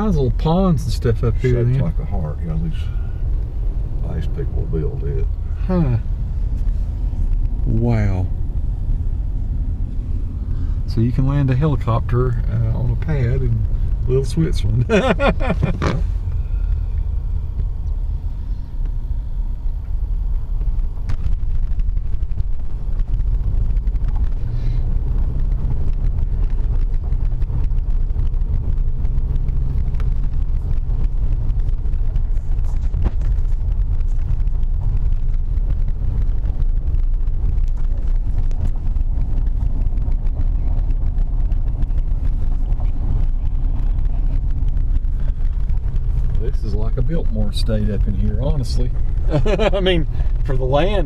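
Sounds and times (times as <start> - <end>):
car engine and road noise: 0.0 - 51.0.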